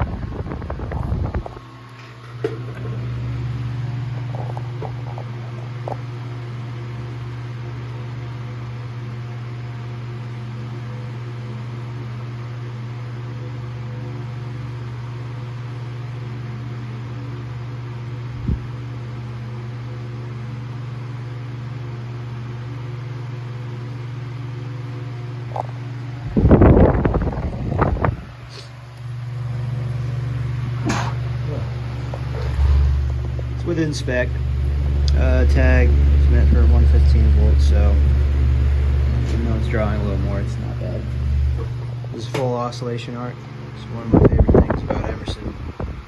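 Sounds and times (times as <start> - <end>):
table fan motor hum: 0.0 - 46.0.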